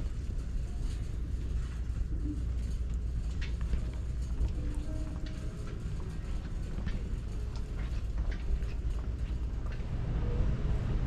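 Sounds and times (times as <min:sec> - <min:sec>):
shopping cart rolling: 0:00.0 - 0:11.0.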